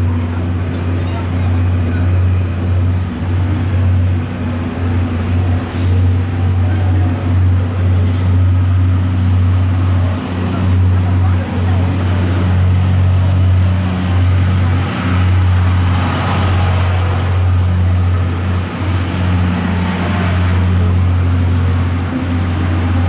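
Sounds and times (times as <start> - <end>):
diesel engine hum: 0.0 - 23.0
train rumble: 0.0 - 23.0.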